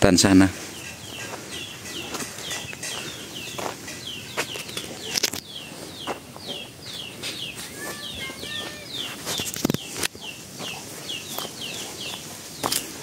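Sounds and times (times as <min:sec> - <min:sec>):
bird chirping: 0:00.2 - 0:13.0
footsteps: 0:00.5 - 0:13.0.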